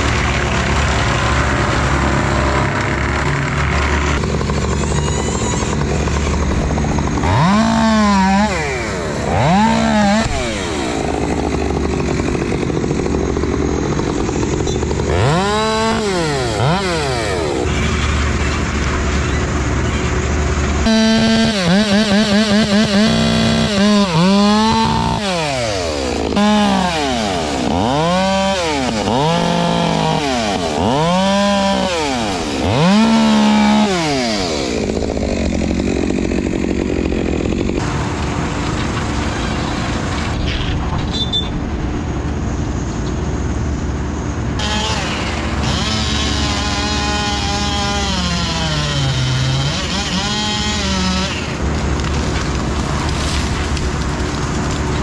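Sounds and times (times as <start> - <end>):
chainsaw cutting log: 0.0 - 40.4, 44.6 - 55.0.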